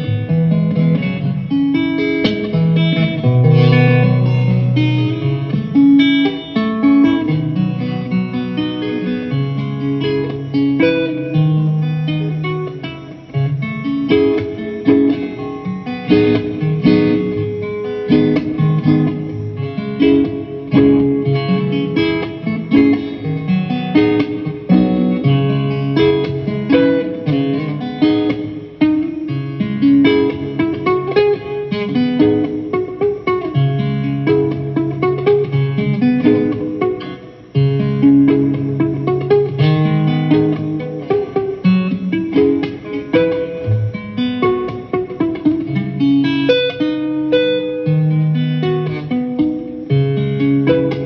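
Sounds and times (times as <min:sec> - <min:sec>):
guitar music: 0:00.0 - 0:51.0.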